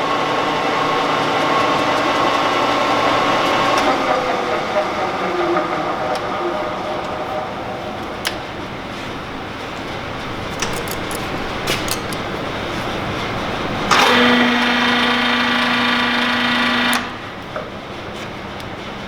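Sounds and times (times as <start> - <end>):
lathe whining tone: 0.0 - 10.5, 11.4 - 17.9
engine lathe running: 0.0 - 19.0.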